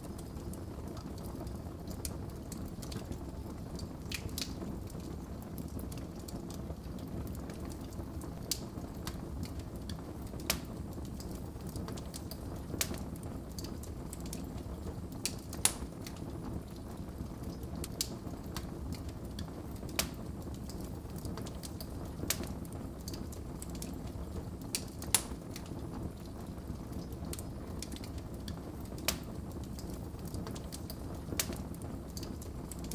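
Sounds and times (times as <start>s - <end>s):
fire crackling and popping: 0.0s - 32.9s
low rumble of flames: 0.0s - 32.9s.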